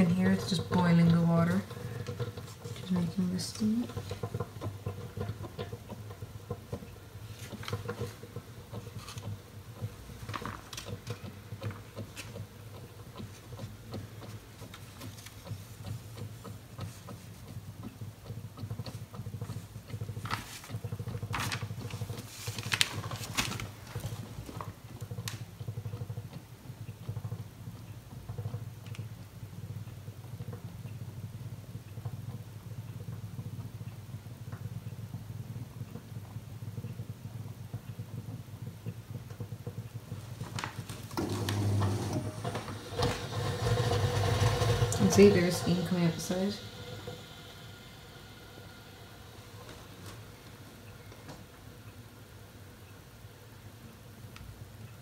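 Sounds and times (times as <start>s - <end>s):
dishwasher humming: 0.0s - 30.6s, 37.1s - 55.0s
water crackling and popping boiling: 0.0s - 55.0s.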